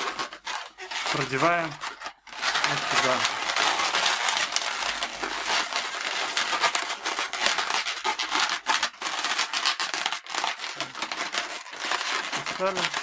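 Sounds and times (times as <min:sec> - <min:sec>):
balloons rubbing and creaking: 0:00.0 - 0:13.0.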